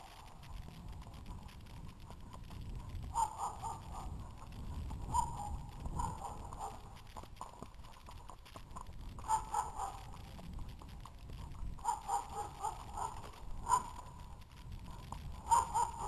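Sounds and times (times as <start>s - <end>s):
horse hoofbeats on grass: 0.0s - 16.0s.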